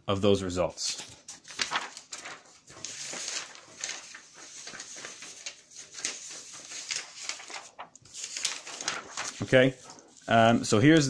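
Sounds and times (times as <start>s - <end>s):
paper rustling on desk: 0.8s - 11.0s.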